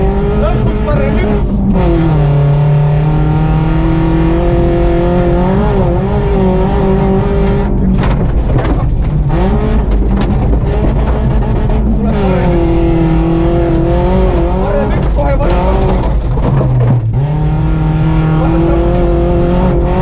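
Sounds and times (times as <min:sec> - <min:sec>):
car engine at high revs: 0:00.0 - 0:20.0
knocks and rattling: 0:03.3 - 0:20.0.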